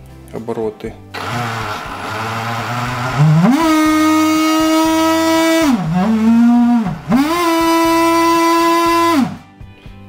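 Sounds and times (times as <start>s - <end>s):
electric motor whine: 1.2s - 9.4s.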